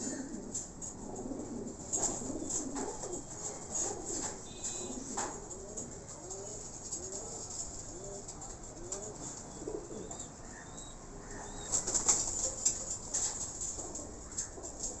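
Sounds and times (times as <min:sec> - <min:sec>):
pigeons cooing: 0:00.0 - 0:15.0
rustle: 0:00.0 - 0:15.0.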